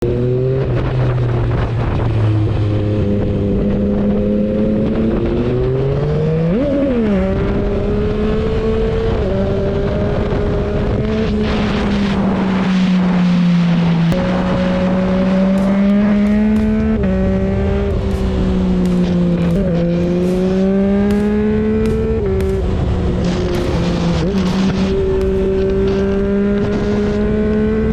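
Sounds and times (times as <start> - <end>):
motorcycle engine accelerating hard: 0.0 - 27.9.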